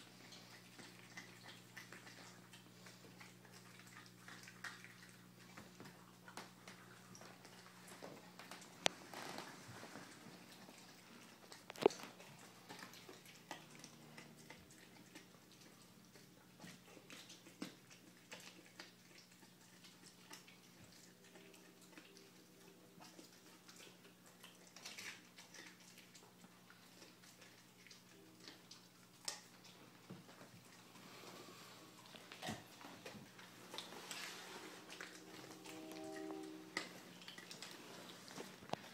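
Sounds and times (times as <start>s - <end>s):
dog chewing bone: 0.0s - 38.9s.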